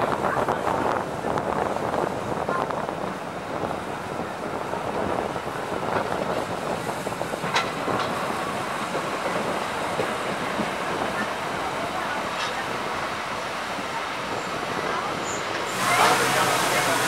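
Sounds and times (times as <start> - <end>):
wheels rumbling on rails: 0.0 - 17.0.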